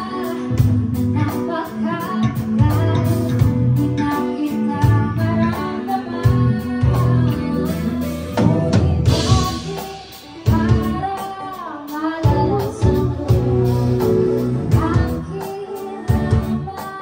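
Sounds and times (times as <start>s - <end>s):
live pop band playing: 0.0s - 17.0s
woman singing: 0.0s - 17.0s.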